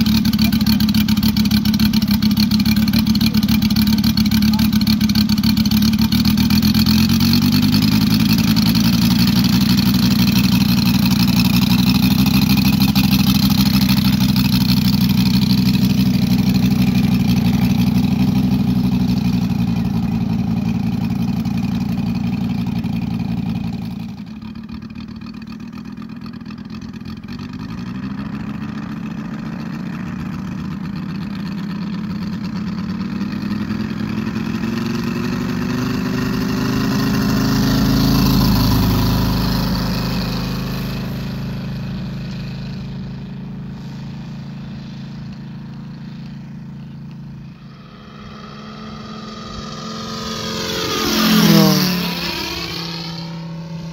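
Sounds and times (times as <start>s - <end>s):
model airplane engine droning: 0.0s - 53.9s.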